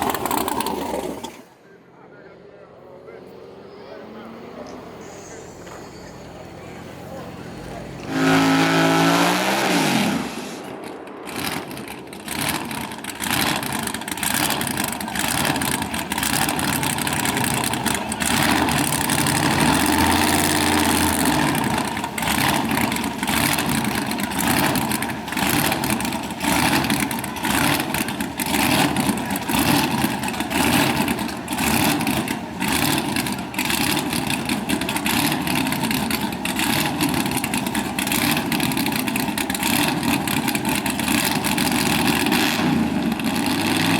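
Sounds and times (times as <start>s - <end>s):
choppy engine crackling: 0.0s - 43.9s.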